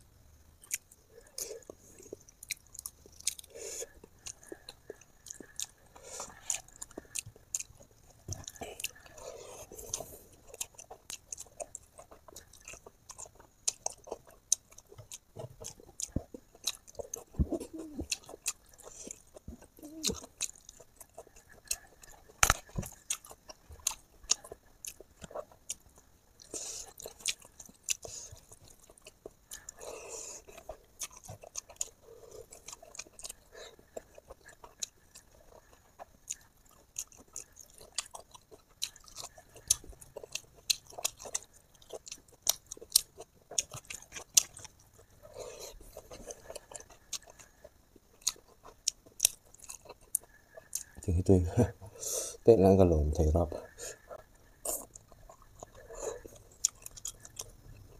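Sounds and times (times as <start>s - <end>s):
person chewing food: 0.6s - 52.4s, 53.1s - 57.9s.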